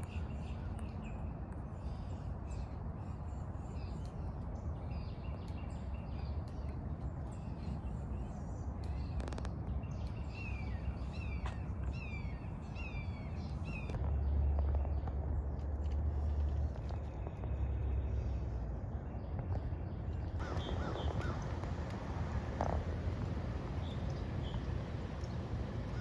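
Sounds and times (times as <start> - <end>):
birds calling: 0.0 - 26.0
steady low rumble: 0.0 - 26.0.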